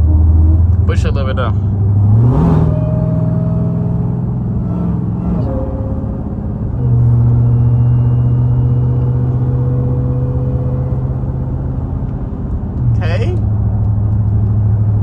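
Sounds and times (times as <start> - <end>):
car engine drone from inside cabin: 0.0 - 15.0.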